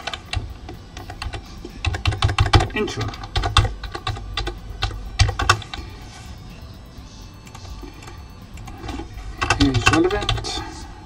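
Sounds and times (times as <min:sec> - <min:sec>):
typing on computer keyboard: 0:00.0 - 0:05.8, 0:07.5 - 0:10.6.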